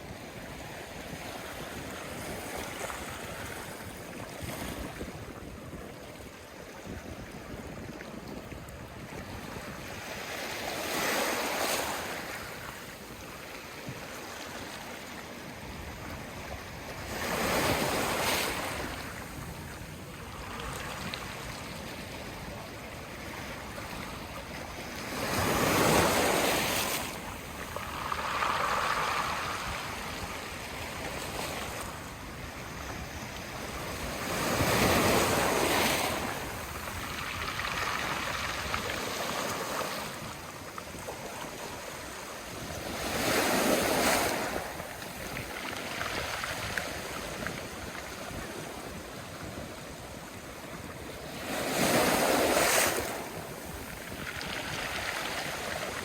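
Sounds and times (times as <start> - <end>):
sea waves washing onto shore: 8.6 - 56.0.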